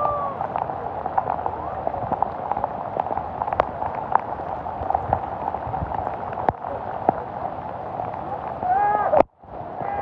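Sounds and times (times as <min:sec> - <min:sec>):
raindrops ticking: 0:00.0 - 0:09.4
heavy rain: 0:00.0 - 0:10.0.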